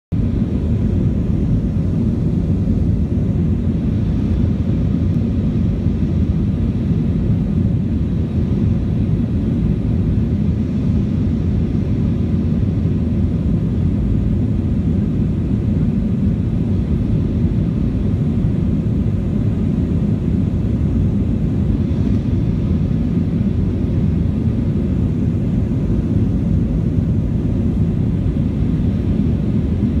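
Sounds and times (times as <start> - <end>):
airplane cabin engine rumble: 0.1 - 30.0.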